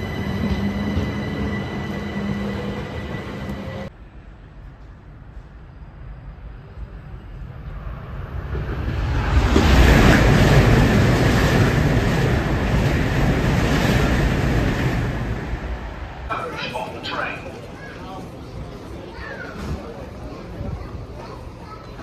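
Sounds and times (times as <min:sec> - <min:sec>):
high-speed train rushing past: 0:00.0 - 0:22.0.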